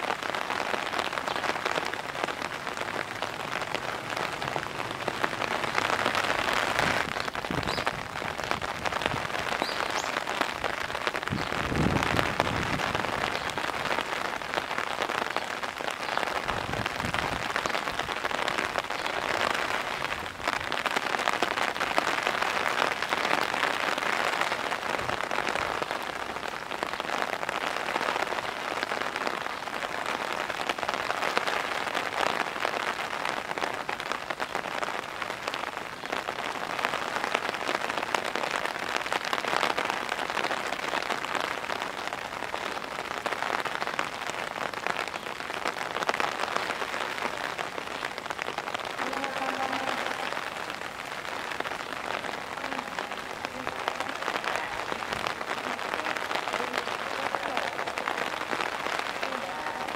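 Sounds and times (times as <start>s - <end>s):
pouring rain: 0.0s - 59.9s.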